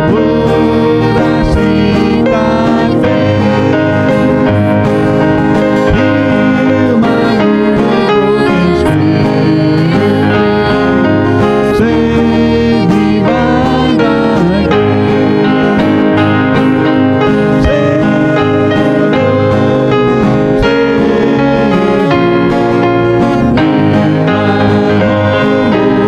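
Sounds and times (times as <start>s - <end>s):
guitars: 0.0s - 26.0s
keyboard: 0.0s - 26.0s
live band playing worship song: 0.0s - 26.0s.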